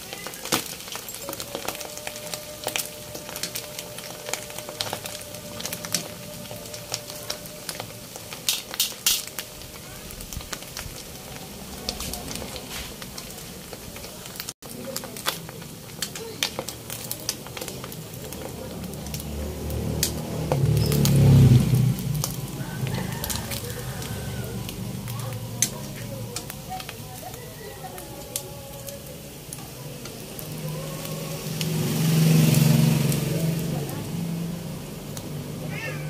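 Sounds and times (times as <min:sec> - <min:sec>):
meat sizzling in hot oil: 0:00.0 - 0:36.0
oil popping and crackling: 0:00.0 - 0:36.0
tongs turning meat in pan: 0:00.0 - 0:36.0.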